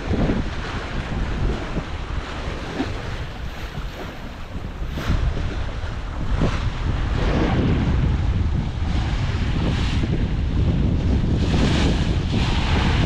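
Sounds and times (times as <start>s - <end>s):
waves splashing against boat: 0.0s - 13.0s
wind buffeting microphone: 0.0s - 13.0s.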